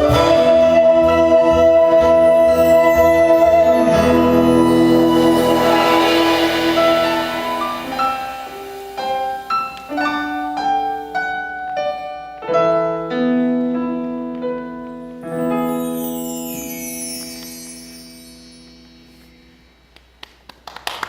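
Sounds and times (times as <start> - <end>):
slow piano notes and chords: 2.4 - 19.9.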